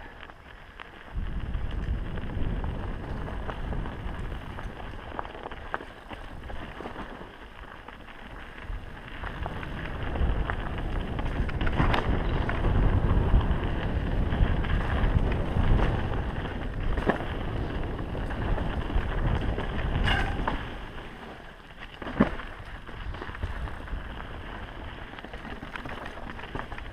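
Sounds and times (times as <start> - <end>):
wind buffeting microphone: 0.0 - 7.6, 8.3 - 26.9
bike clacking over bumps: 0.6 - 26.9
tyre rumble on dirt: 1.0 - 26.9.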